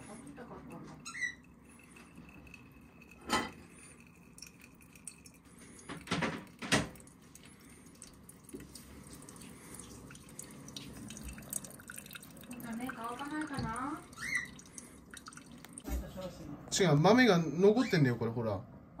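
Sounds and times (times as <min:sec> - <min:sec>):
coffee dripping into glass: 0:00.1 - 0:15.9.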